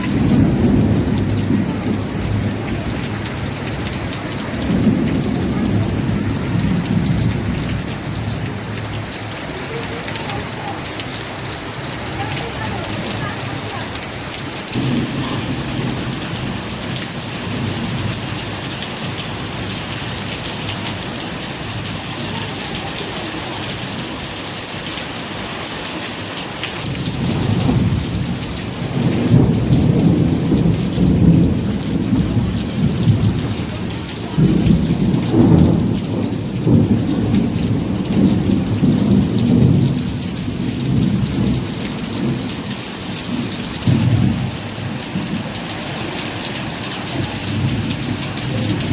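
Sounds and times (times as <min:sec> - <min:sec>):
thunder rumbling: 0:00.0 - 0:22.8, 0:26.8 - 0:48.9
steady rain: 0:00.0 - 0:48.9.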